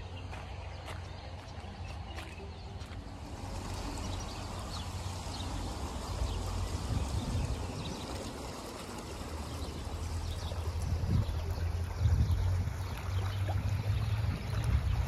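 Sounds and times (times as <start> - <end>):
water flowing in a stream: 0.0 - 15.0
wind buffeting microphone: 0.0 - 15.0.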